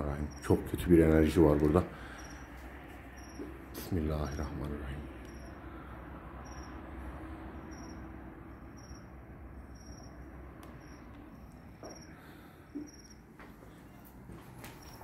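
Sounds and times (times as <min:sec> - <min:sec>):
crickets chirping: 0:00.0 - 0:14.0, 0:14.7 - 0:15.0.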